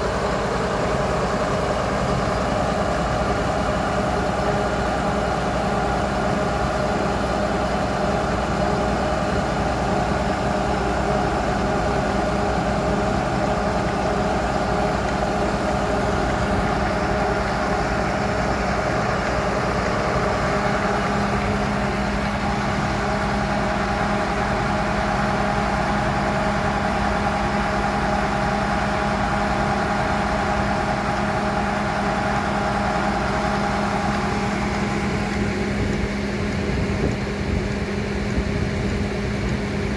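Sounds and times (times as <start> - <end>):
drilling rig engine drone: 0.0 - 39.9
steady hum tones: 0.0 - 39.9.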